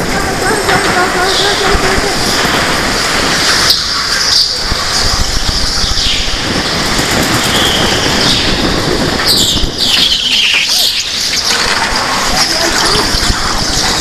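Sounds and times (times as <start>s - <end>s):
go-kart engines: 0.0s - 14.0s.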